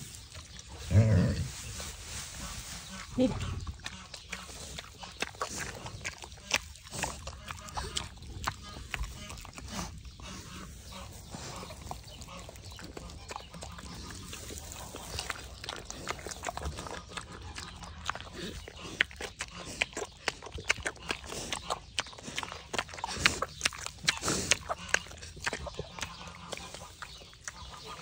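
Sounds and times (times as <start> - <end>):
pig chewing with wet smacking: 2.9 - 28.0.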